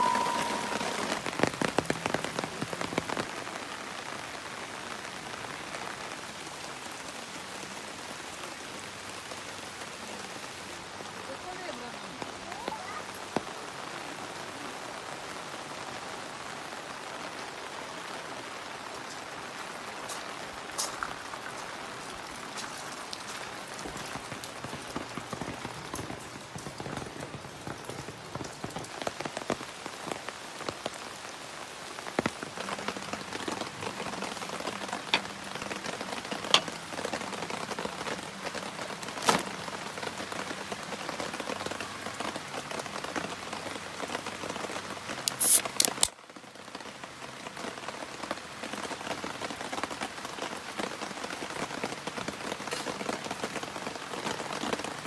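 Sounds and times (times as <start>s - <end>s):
heavy raindrops striking sharply: 0.0s - 55.0s
steady rain falling: 0.0s - 55.0s.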